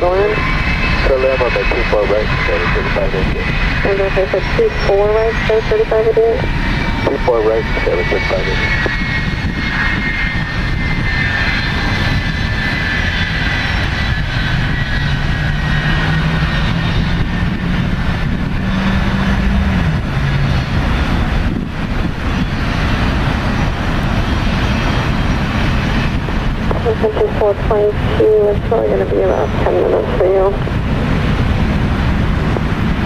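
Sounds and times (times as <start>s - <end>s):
high engine whine: 0.0s - 33.0s
jet engines rushing: 0.0s - 33.0s
low hum: 0.0s - 33.0s.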